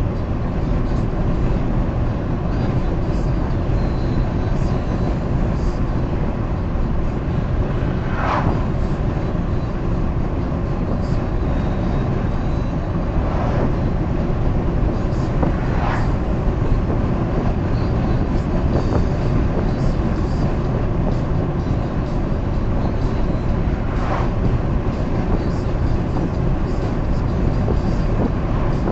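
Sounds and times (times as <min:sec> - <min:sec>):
car tyre and engine rumble: 0:00.0 - 0:28.9.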